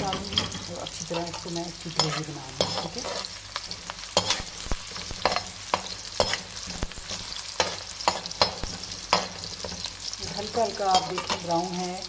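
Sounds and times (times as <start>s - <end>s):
spatula scraping and knocking pan: 0.0s - 11.5s
onion sizzling in hot oil: 0.0s - 12.0s.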